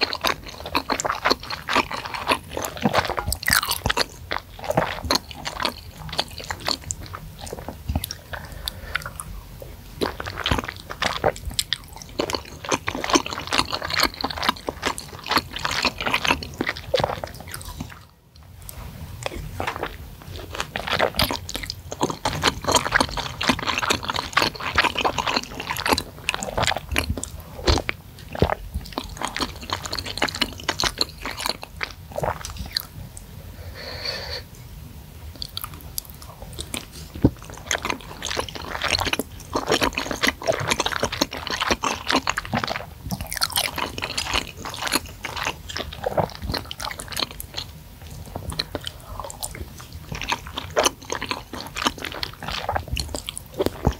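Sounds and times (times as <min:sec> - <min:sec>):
close chewing with mouth clicks: 0:00.0 - 0:33.3, 0:35.3 - 0:53.9.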